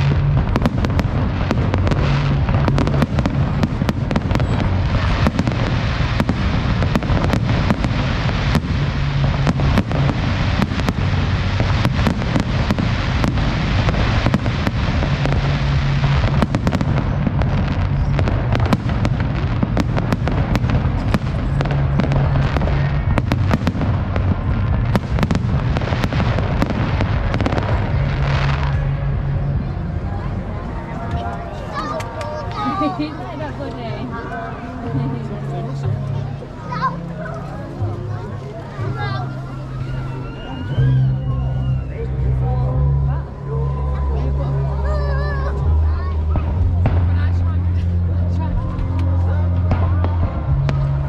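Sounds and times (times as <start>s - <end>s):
fireworks bangs and crackles: 0.0s - 51.0s
low rumble: 0.0s - 51.0s.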